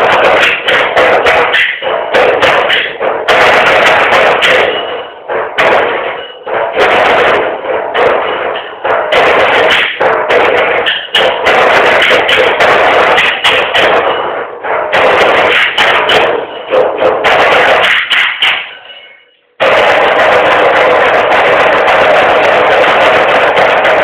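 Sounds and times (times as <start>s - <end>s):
drums played with sticks: 0.0s - 18.8s, 19.6s - 24.0s.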